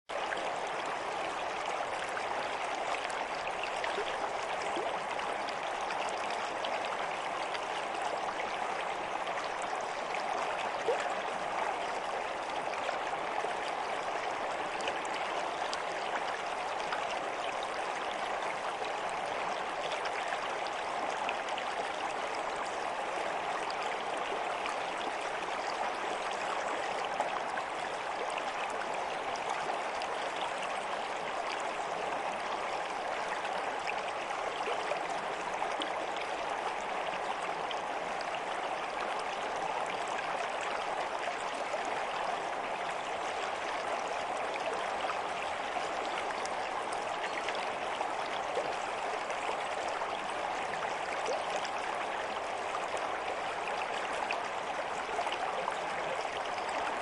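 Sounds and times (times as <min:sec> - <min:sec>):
water trickling and splashing: 0:00.1 - 0:57.0
stream water rushing: 0:00.2 - 0:57.0.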